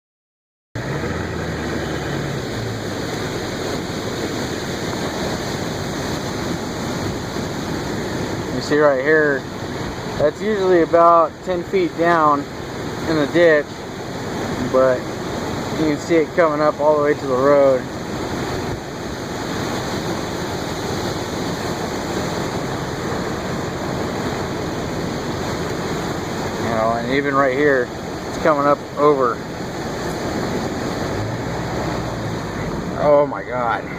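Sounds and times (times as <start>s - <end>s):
floodwater rushing through ditch: 0.8s - 33.9s.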